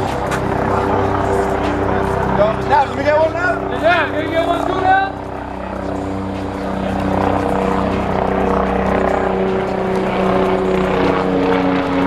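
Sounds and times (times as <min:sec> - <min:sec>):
loud engine drone: 0:00.0 - 0:12.0.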